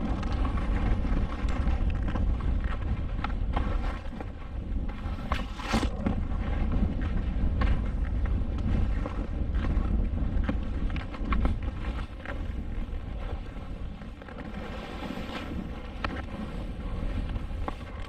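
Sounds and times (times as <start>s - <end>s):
skis running through snow: 0.0s - 18.0s
wind rumble on microphone: 0.0s - 18.0s.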